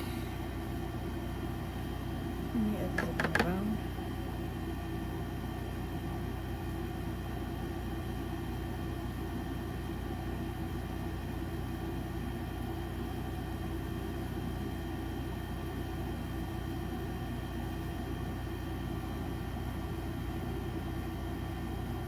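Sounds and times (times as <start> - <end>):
electric fan humming: 0.0 - 21.9.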